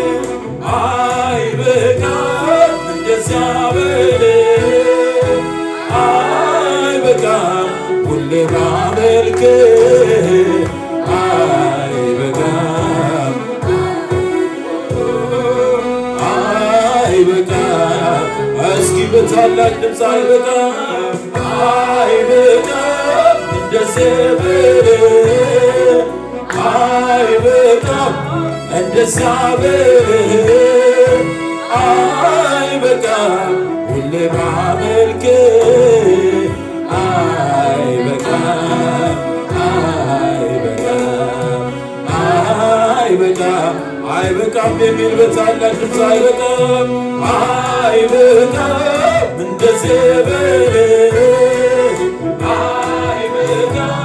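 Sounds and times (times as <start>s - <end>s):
instrumental backing with bass: 0.0s - 54.0s
man singing into microphone: 0.0s - 54.0s.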